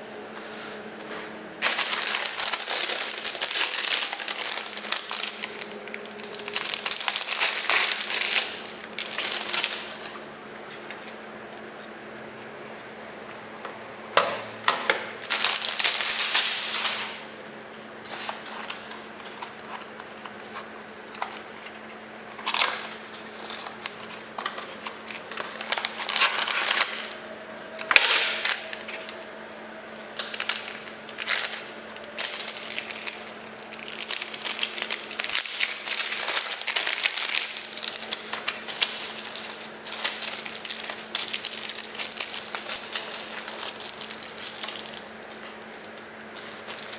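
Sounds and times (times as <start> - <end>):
packaging rustling and crinkling: 1.6 - 13.4, 15.2 - 46.9.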